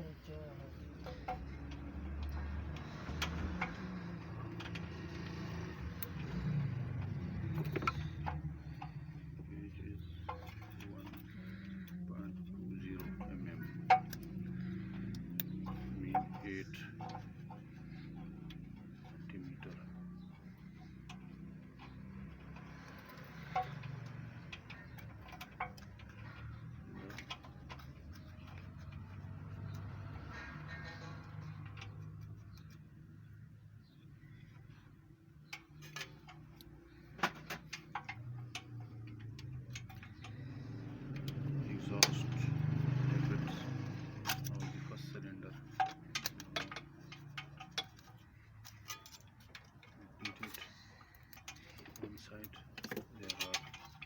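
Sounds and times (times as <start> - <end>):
hand tools tapping metal: 0.0 - 54.0.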